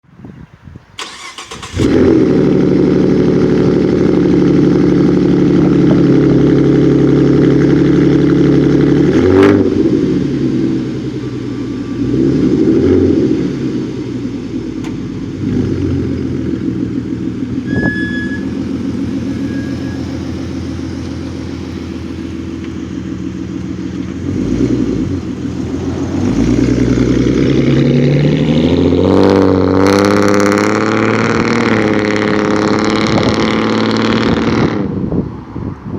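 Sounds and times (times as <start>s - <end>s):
loud unmuffled engine exhaust revving: 1.0s - 35.2s.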